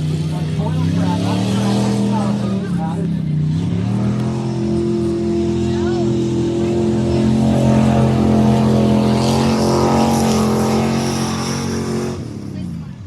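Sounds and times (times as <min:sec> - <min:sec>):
truck engine loud drone: 0:00.0 - 0:13.0.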